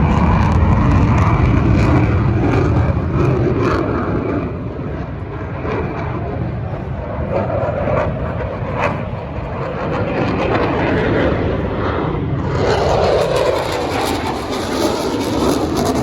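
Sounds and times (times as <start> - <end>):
airplane engine in flight: 0.0 - 16.0.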